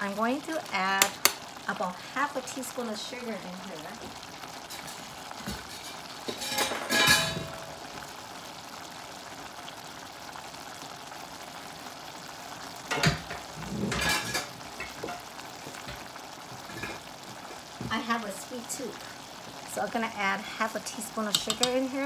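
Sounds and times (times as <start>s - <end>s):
rice bubbling in saucepan: 0.0s - 22.0s.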